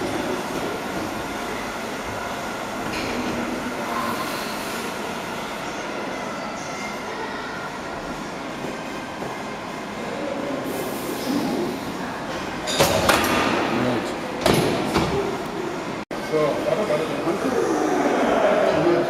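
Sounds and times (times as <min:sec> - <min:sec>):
gym hall background noise: 0:00.0 - 0:19.0.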